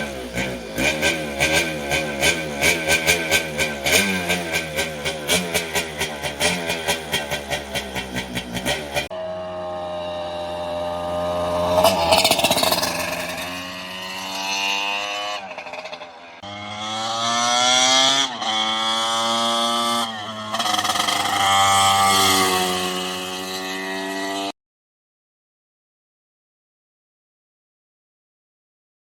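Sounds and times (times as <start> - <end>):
motorcycle engine accelerating hard: 0.0 - 24.5.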